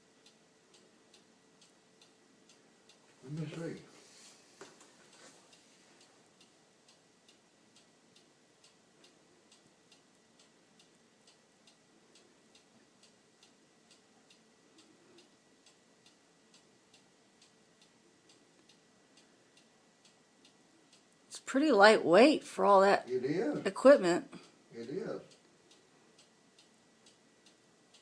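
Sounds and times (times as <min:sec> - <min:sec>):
clock ticking: 0:00.0 - 0:28.0.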